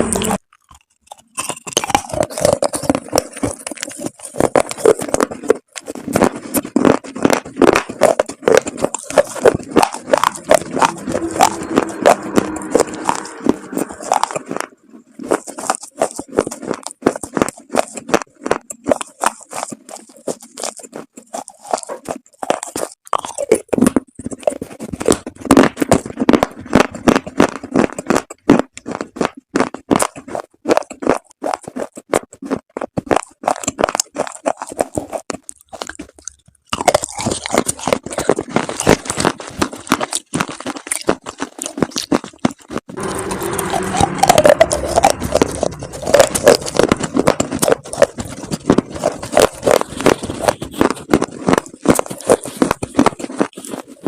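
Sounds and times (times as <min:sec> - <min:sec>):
dried chalk paste crunching: 0:00.0 - 0:54.0.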